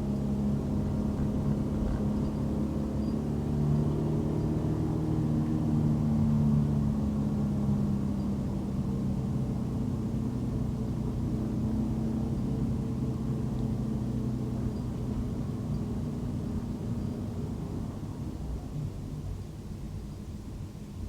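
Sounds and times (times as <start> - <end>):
car engine hum: 0.0 - 19.8
road rumble: 0.0 - 21.0.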